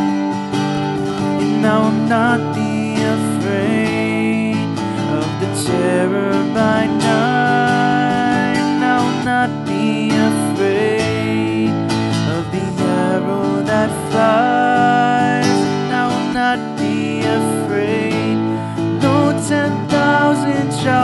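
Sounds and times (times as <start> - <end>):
acoustic guitar strumming: 0.0 - 21.0
man singing: 1.1 - 21.0.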